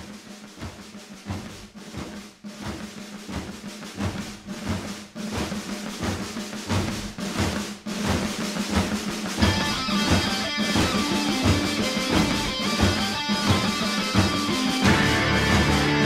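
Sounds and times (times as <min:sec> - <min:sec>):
drum beat music: 0:00.0 - 0:16.0.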